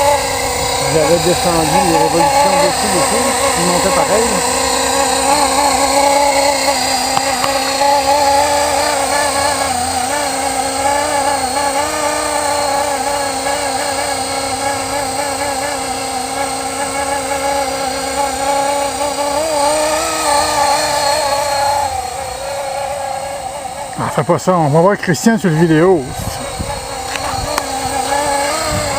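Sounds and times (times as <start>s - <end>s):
electric helicopter motor whine: 0.0s - 28.9s.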